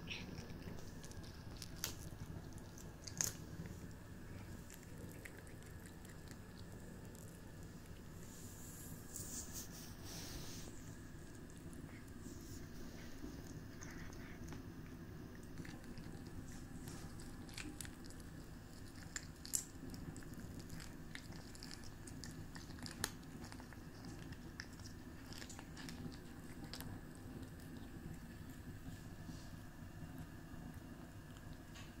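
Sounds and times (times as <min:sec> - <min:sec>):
steady low hum: 0:00.0 - 0:32.0
cat crunching a fish head: 0:00.1 - 0:08.2, 0:11.0 - 0:31.7.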